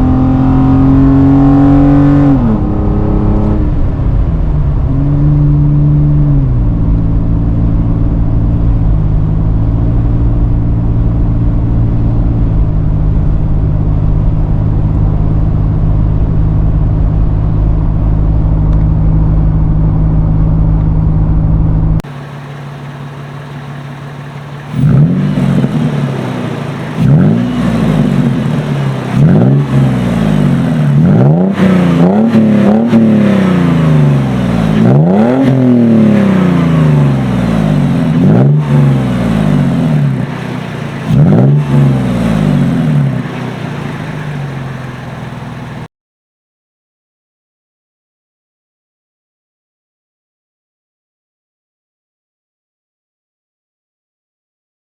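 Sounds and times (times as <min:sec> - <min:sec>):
engine with deep exhaust revving: 0:00.0 - 0:45.9.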